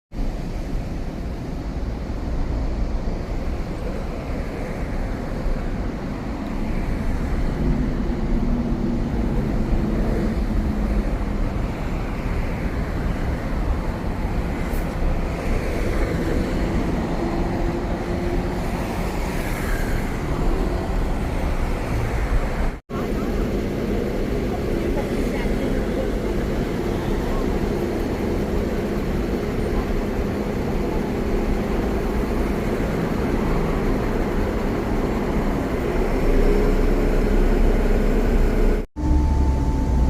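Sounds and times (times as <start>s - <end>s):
road traffic rumble: 0.1s - 40.0s.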